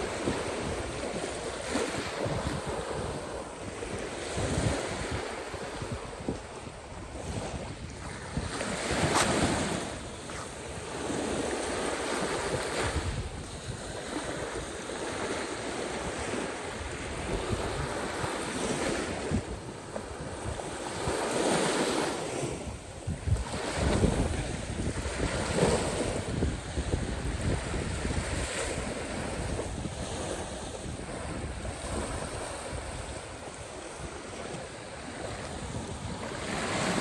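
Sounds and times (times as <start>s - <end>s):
sea waves breaking: 0.0s - 37.0s
wind buffeting microphone: 0.0s - 37.0s.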